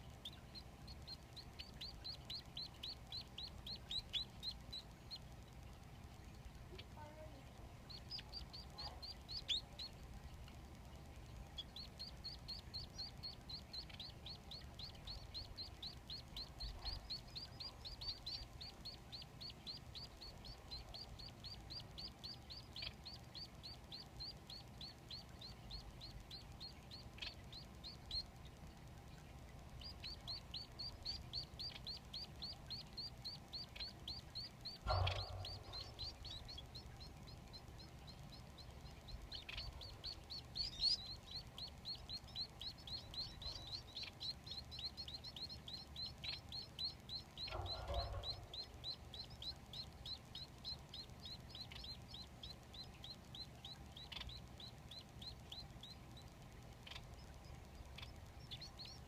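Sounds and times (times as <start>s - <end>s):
finch nestlings cheeping: 0.0s - 6.5s, 7.8s - 59.0s.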